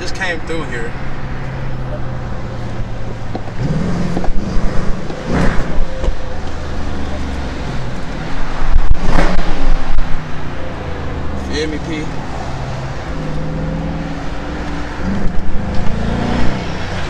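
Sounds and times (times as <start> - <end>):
car engine revving: 0.6 - 17.0.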